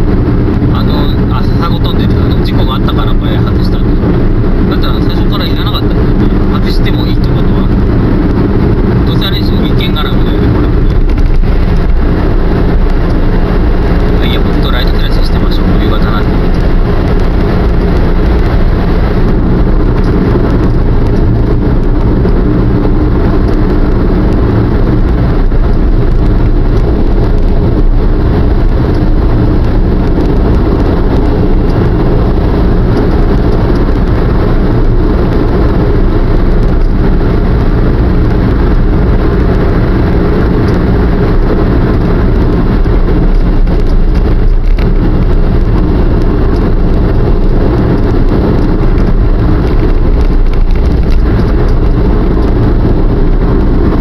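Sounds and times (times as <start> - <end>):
car engine and road noise rumble: 0.0 - 54.0.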